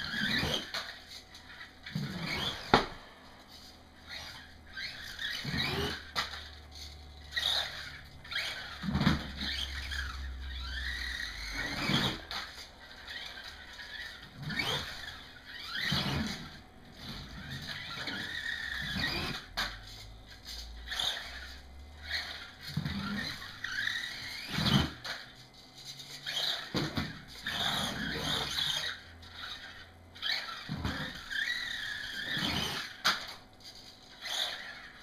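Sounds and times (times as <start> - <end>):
small electric motor whining: 0.0 - 35.0.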